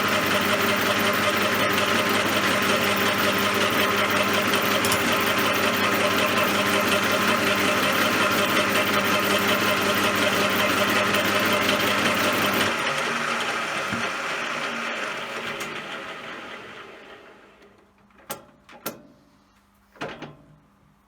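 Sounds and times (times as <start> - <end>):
lathe running: 0.0 - 17.6
lathe spindle coasting down: 0.0 - 17.7.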